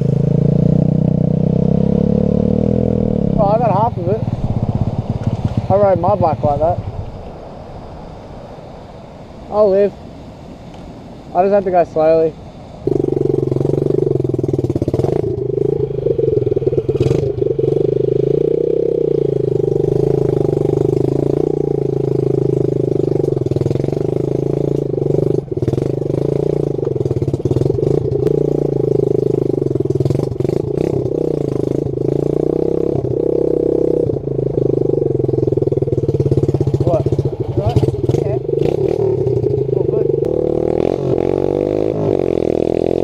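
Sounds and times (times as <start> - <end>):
dirt bike engine running: 0.0 - 7.2, 12.8 - 43.0.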